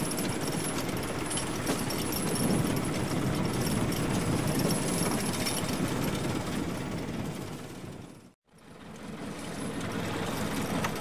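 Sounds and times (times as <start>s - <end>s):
machinery rattling and humming: 0.0s - 11.0s.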